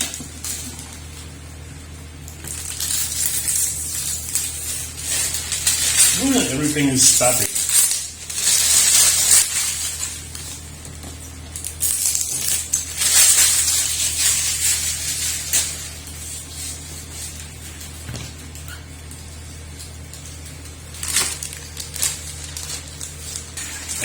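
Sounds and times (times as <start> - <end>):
low steady hum: 0.0 - 24.0
plastic packaging crinkling: 2.2 - 24.0.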